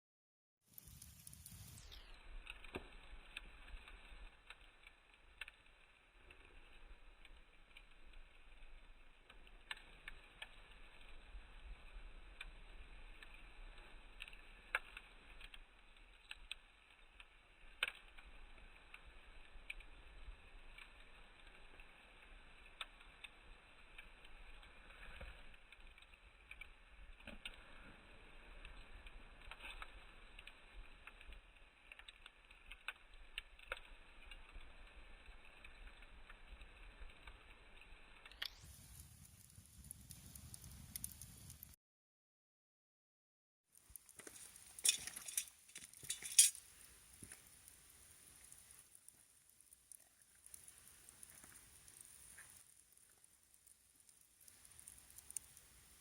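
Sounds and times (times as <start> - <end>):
campfire crackling and popping: 0.6 - 41.8, 43.7 - 56.0.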